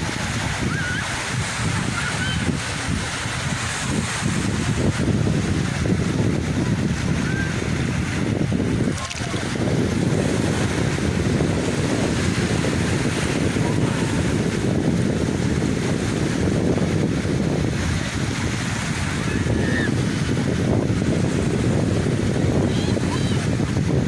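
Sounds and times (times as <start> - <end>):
sea waves washing: 0.0 - 24.0
wind buffeting microphone: 0.0 - 24.0.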